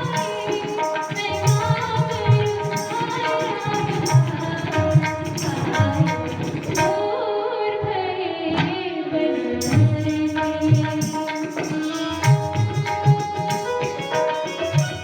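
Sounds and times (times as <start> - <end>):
tabla strokes: 0.0 - 7.0, 9.6 - 15.0
woman singing: 0.0 - 15.0.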